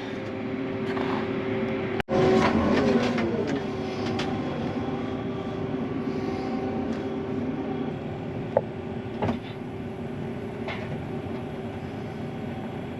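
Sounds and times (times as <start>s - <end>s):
combine harvester whine from cab: 0.0s - 12.9s.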